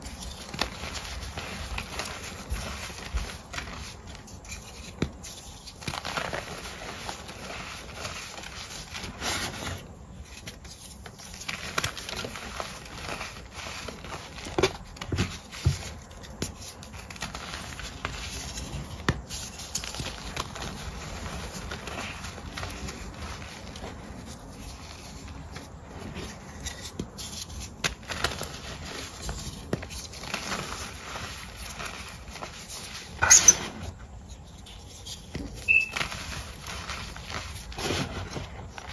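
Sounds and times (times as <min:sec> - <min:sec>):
chalk crunching and crumbling: 0:00.0 - 0:38.9.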